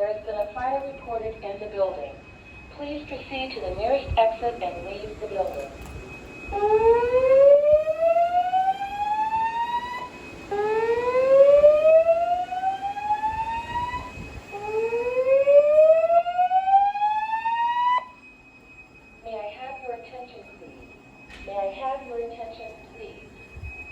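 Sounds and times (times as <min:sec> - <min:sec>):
faint steady high tone: 0:00.0 - 0:23.9
fire alarm whoop tone: 0:00.0 - 0:23.9.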